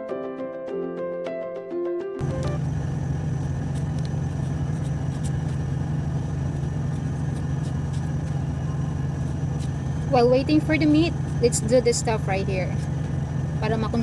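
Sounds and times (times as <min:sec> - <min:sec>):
diesel engine low hum: 0:02.2 - 0:14.0.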